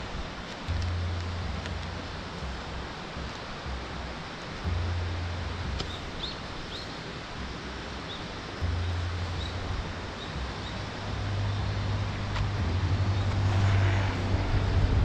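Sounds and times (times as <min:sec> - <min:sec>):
low rumble: 0:00.0 - 0:15.0
steady hiss: 0:00.0 - 0:15.0.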